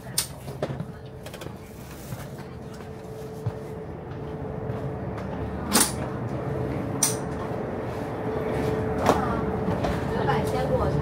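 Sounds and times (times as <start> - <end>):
train carriage hum: 0.0 - 11.0.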